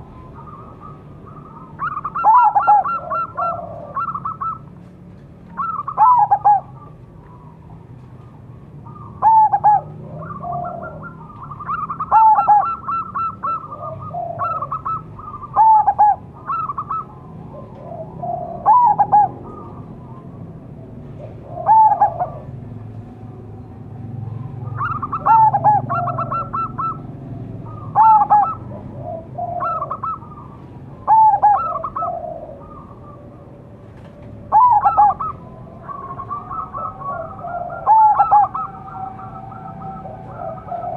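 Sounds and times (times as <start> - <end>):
dove cooing: 0.0 - 4.9, 5.5 - 7.8, 8.8 - 23.3, 24.2 - 40.9.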